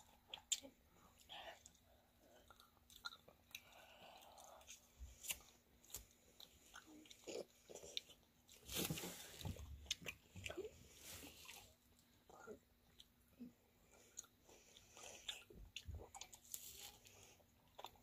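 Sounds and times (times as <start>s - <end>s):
quiet chewing of fruit: 0.0s - 18.0s.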